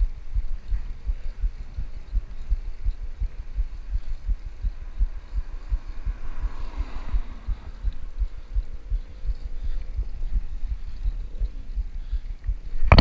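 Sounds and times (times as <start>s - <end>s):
wind buffeting microphone: 0.0s - 13.0s
car passing: 0.4s - 12.1s.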